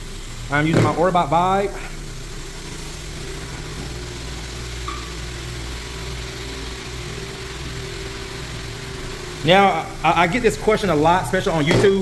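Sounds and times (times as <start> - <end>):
floor screening machine humming: 0.0 - 12.0.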